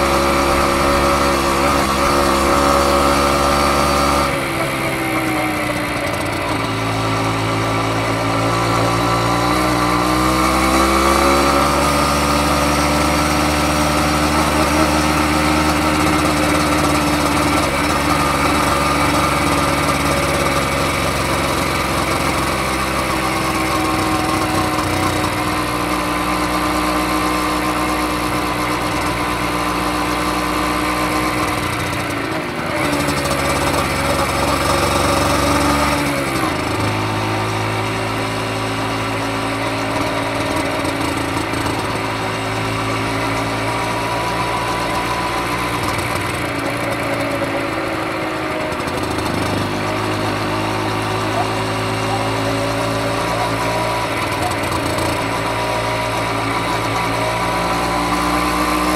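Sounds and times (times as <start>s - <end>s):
two-stroke motorcycle engine running: 0.0s - 58.9s.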